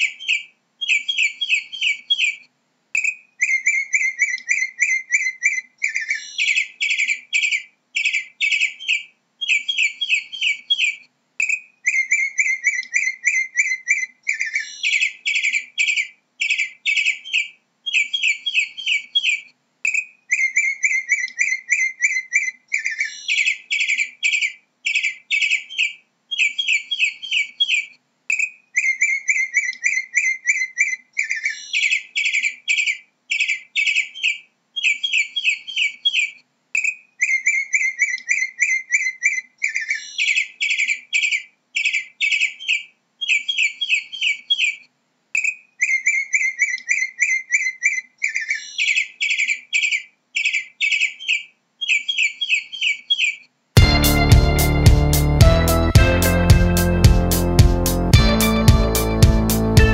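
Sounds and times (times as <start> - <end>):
mockingbird singing rapid chirps: 0.0 - 2.4, 3.0 - 44.8, 45.4 - 59.9.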